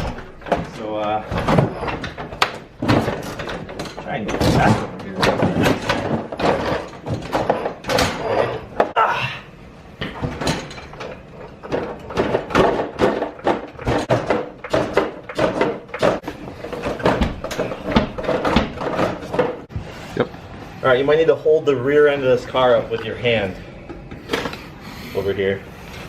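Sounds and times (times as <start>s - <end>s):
knocks clunks and clatter: 0.0s - 9.0s, 9.9s - 19.9s, 21.3s - 24.8s.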